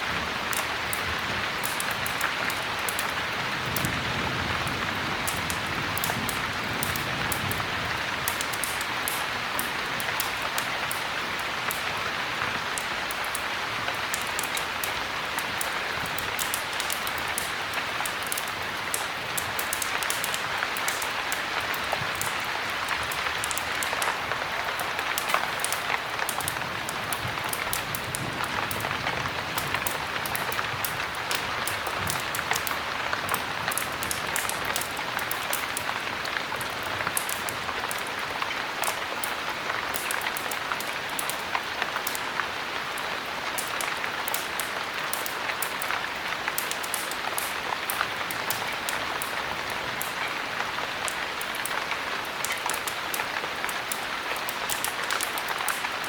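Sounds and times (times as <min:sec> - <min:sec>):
heavy rain: 0:00.0 - 0:56.0
wood fire crackling and popping: 0:00.0 - 0:56.0.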